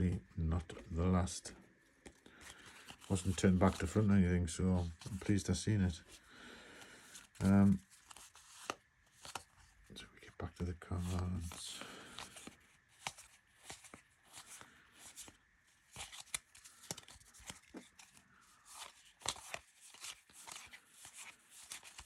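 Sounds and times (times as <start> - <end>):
trading cards flipped and rustling: 2.0 - 4.2, 4.8 - 9.9, 10.9 - 22.0.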